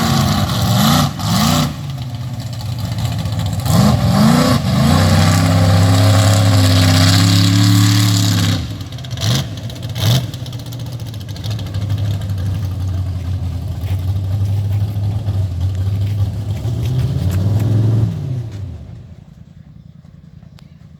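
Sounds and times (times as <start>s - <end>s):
truck engine revving: 0.0s - 20.9s.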